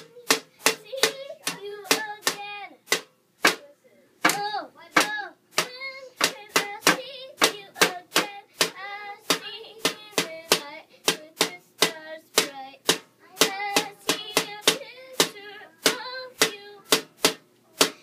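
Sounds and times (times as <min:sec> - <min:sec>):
child singing: 0:00.0 - 0:02.8, 0:04.2 - 0:17.1
drums beaten with sticks: 0:00.0 - 0:03.6, 0:04.2 - 0:18.0.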